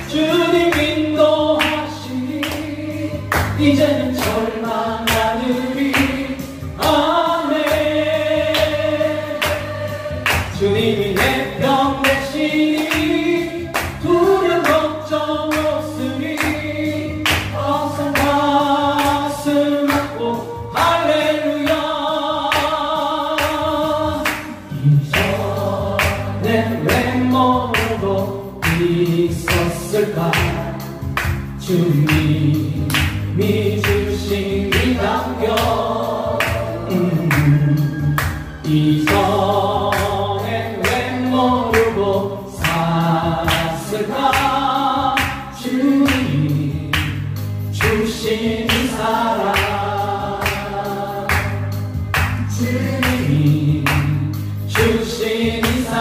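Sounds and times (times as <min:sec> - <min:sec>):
backing music with bass and beat: 0:00.0 - 0:56.0
choir singing: 0:00.0 - 0:56.0.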